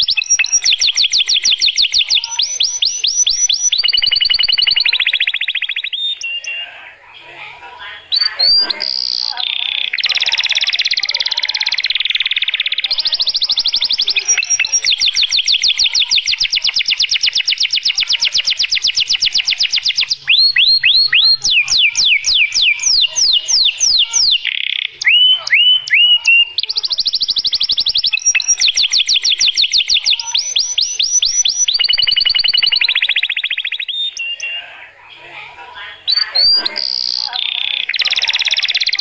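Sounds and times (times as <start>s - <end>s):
canary singing: 0.0s - 39.0s.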